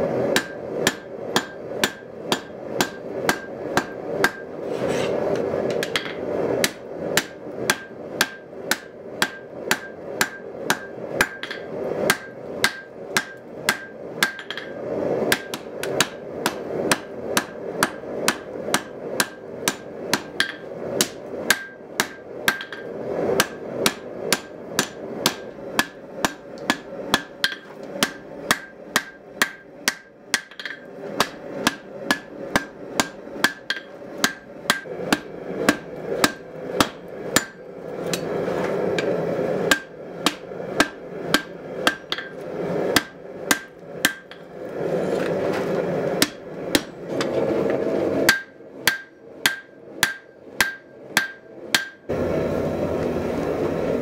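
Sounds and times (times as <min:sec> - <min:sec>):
hammer striking hot steel: 0:00.1 - 0:52.2.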